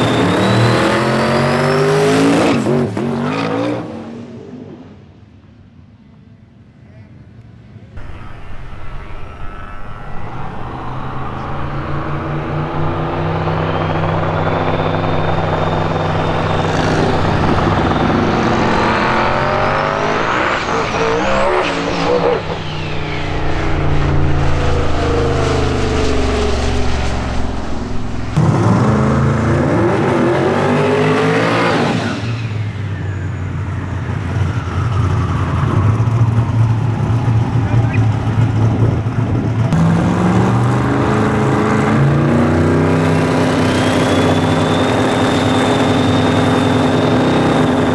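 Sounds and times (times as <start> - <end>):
race car engine at full throttle: 0.0 - 6.3, 7.4 - 47.9.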